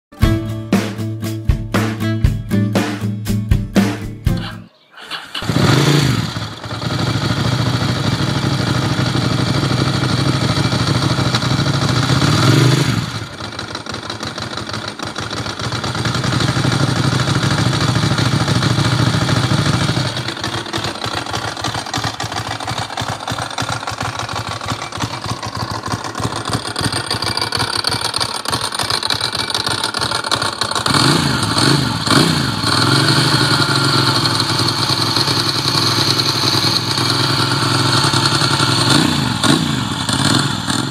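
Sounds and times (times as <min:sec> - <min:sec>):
motorcycle engine revving and idling: 0:04.4 - 0:40.9.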